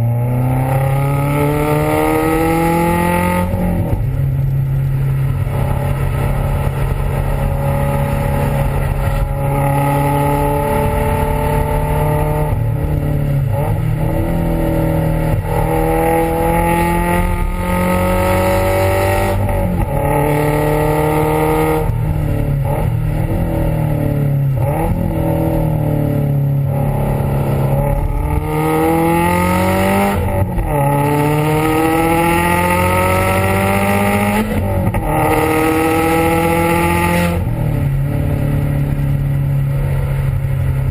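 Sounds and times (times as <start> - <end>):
car exhaust under hard acceleration: 0.0 - 40.9.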